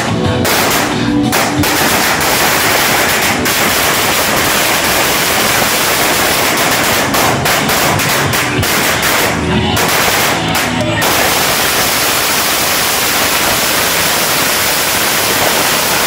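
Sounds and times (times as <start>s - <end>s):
firecracker string crackling: 0.0s - 16.0s.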